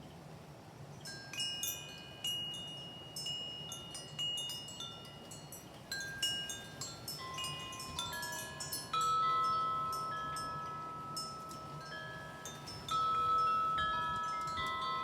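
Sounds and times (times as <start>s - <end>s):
metal wind chime clinking: 1.0s - 15.0s.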